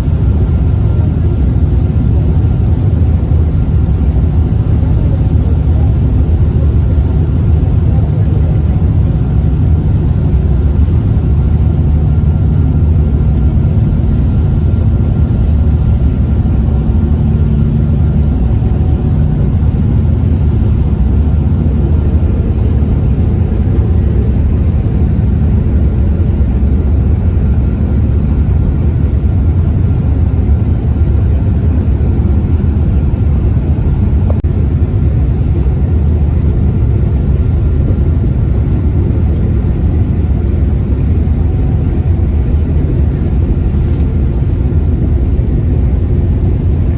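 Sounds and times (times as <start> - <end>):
ferry engines rumbling: 0.0 - 46.9.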